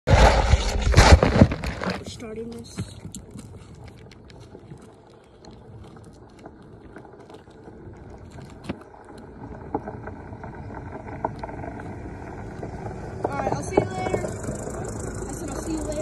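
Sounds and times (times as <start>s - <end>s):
wind buffeting microphone: 2.1s - 16.0s.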